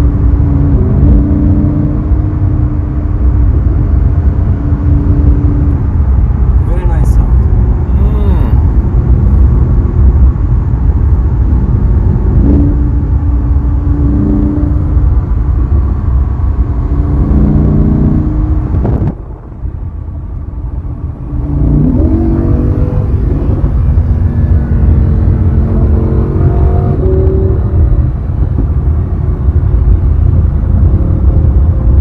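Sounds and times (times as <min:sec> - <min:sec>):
low road rumble: 0:00.0 - 0:32.0
sports car engine running: 0:00.0 - 0:32.0.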